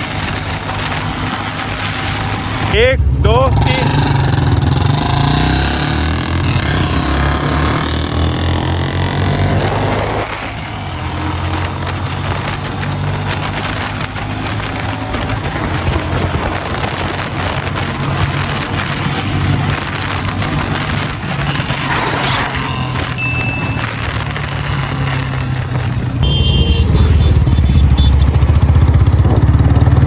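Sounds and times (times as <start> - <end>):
motorcycle engines accelerating: 0.0 - 30.0.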